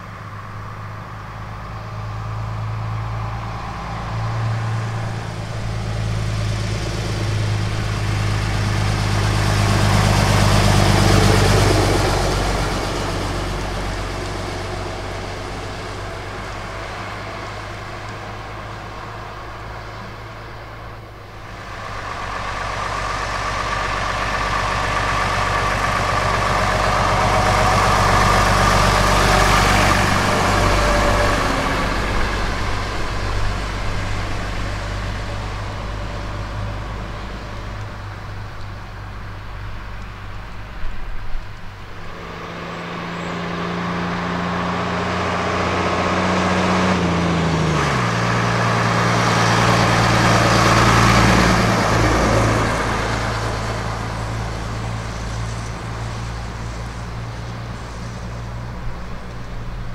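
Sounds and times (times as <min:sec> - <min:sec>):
bus engine passing: 0:00.0 - 0:59.9
bus engine pulling hard: 0:00.0 - 0:59.9.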